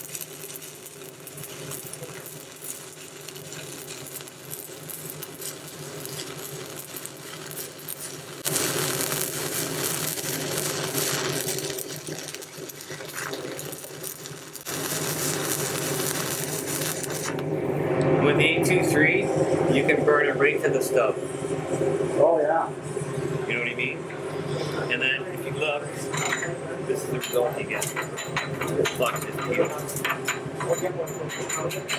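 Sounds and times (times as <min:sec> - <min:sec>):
welding arc crackling: 0:00.0 - 0:22.2, 0:23.0 - 0:31.9.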